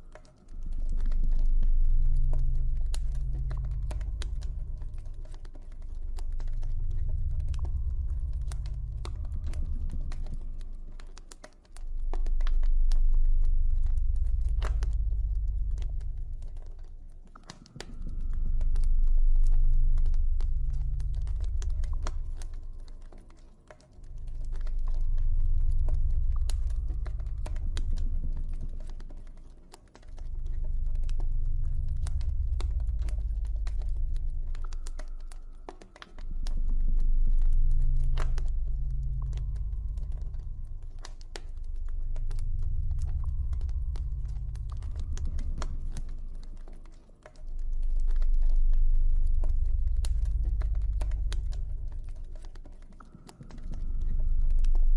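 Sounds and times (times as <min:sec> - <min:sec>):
deep low ambient drone: 0:00.0 - 0:54.9.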